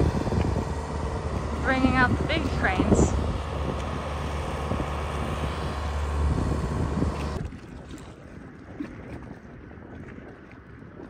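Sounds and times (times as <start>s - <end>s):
low engine rumble: 0.0s - 9.8s
wind noise on microphone: 0.0s - 11.0s.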